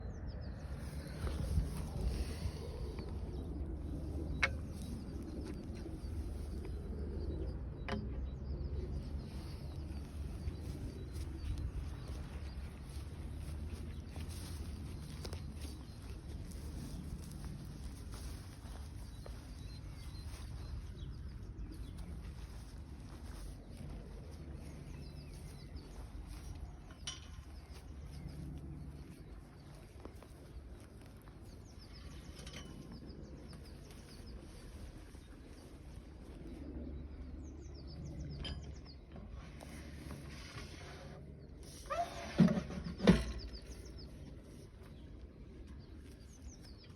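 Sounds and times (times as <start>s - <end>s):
low rumble: 0.0s - 40.4s.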